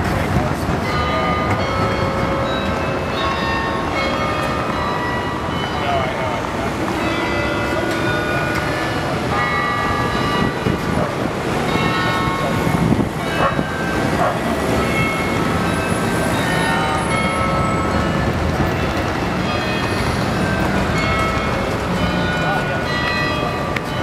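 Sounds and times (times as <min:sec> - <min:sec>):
crowd chatter: 0:00.0 - 0:24.0
traffic: 0:00.0 - 0:24.0.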